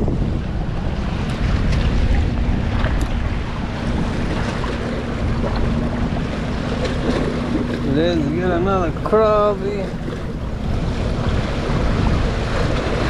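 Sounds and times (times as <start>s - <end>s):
steady low hum: 0.0s - 13.0s
waves washing on rocks: 0.0s - 13.0s
wind buffeting microphone: 0.0s - 13.0s.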